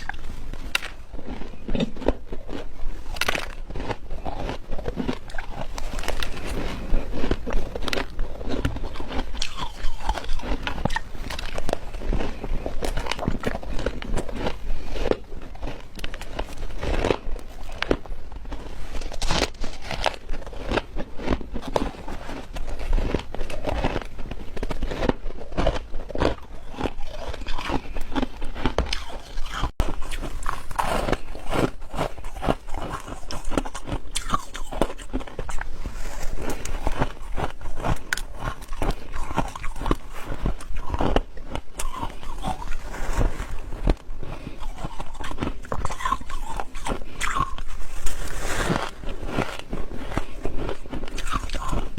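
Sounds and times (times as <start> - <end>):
person chewing ice: 0.0 - 51.9.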